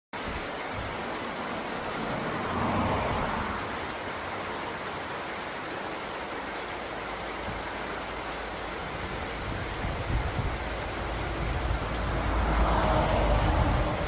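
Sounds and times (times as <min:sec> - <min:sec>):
rushing water: 0:00.1 - 0:14.0.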